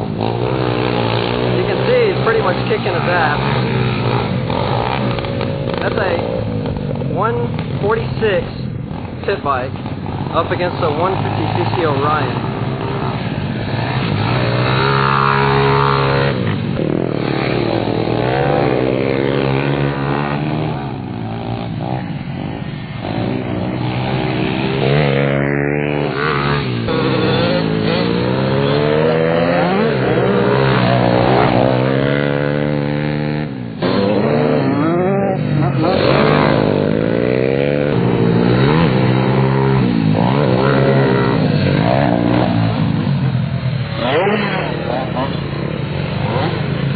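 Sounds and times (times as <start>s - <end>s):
pit bike engines revving: 0.0s - 46.9s.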